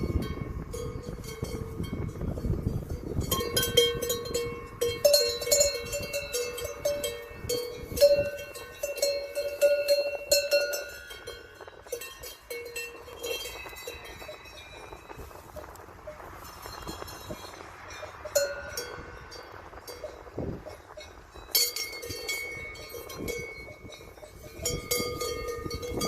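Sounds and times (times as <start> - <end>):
cowbells clanking: 0.0 - 26.0.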